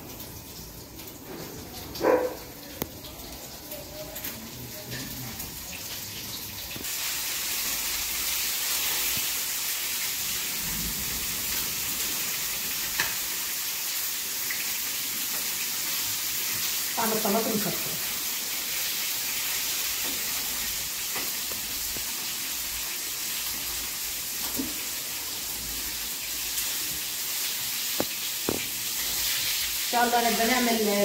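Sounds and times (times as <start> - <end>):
fish sizzling in a pan: 0.0 - 31.0.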